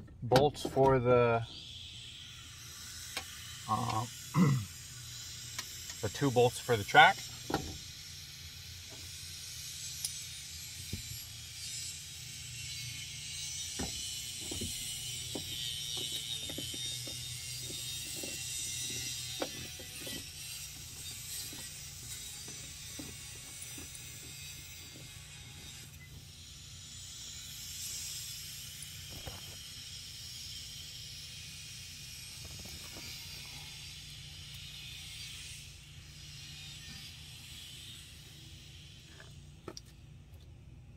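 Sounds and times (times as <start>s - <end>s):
ratchet clicking: 1.5s - 39.8s.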